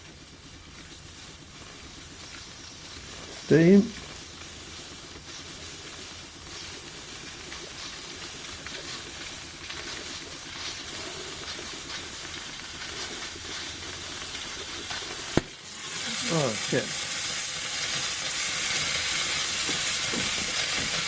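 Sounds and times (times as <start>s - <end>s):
steam cleaner hissing: 0.0s - 21.0s
water pump fluttering: 0.0s - 21.0s.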